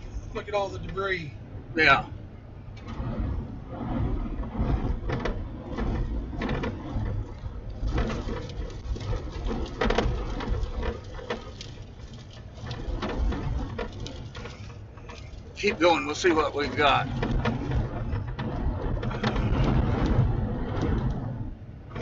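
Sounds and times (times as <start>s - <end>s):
strong wind buffeting vehicle: 0.0s - 22.0s
knocks and rattles: 2.8s - 22.0s.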